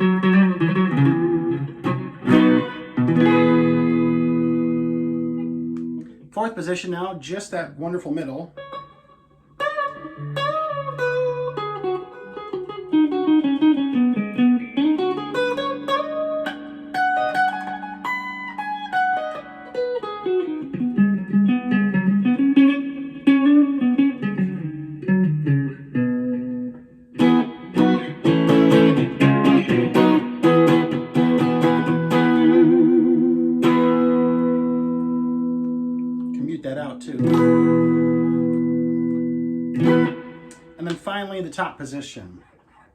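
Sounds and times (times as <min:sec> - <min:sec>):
clean electric guitar playing: 0:00.0 - 0:40.9.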